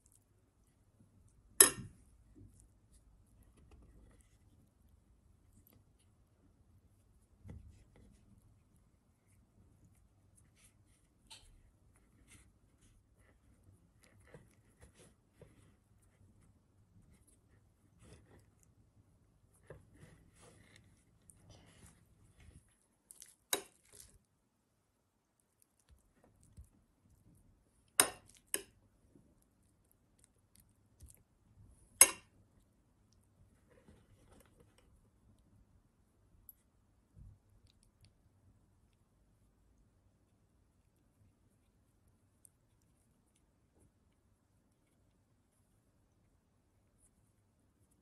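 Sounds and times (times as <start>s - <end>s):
fingers folding pastry dough: 0.0s - 48.0s
low room hum: 0.0s - 48.0s.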